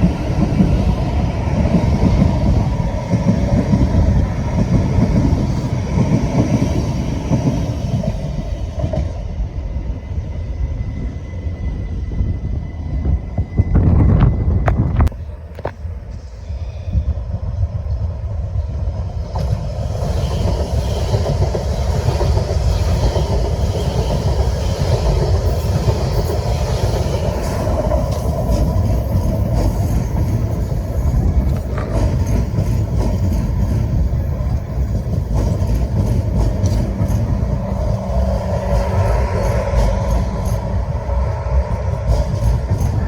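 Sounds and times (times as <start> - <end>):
train wheels clicking on rail joints: 0.0 - 11.7, 17.8 - 43.0
train rumbling: 0.0 - 43.0.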